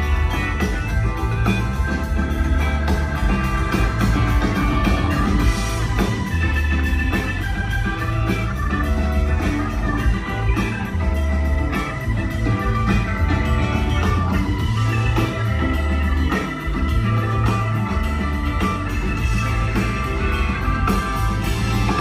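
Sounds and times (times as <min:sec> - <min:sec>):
bass guitar: 0:00.0 - 0:22.0
drums: 0:00.0 - 0:22.0
electric guitars: 0:00.0 - 0:22.0.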